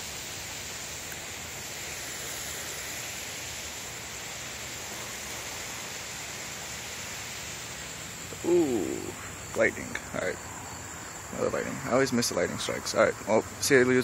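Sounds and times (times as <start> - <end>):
insect trill: 0.0 - 14.0
lawn sprinklers hissing: 0.0 - 14.0.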